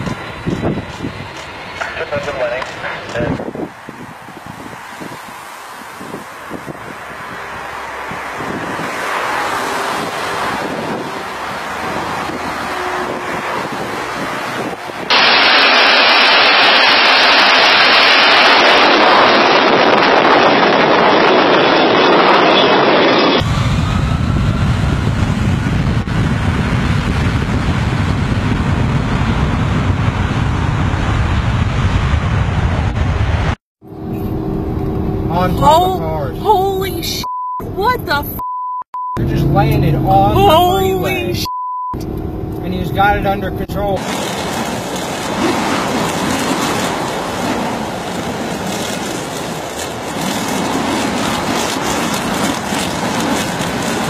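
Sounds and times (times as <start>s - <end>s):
wind buffeting microphone: 0.0s - 36.0s, 39.3s - 54.0s
jet engines roaring: 0.0s - 36.7s, 39.2s - 54.0s.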